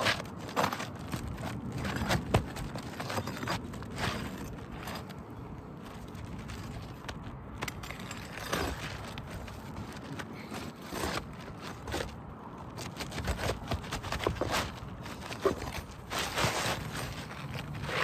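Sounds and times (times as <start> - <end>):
roofing nails being pried up: 0.0 - 18.0
shingle scraping and knocking: 0.0 - 18.0.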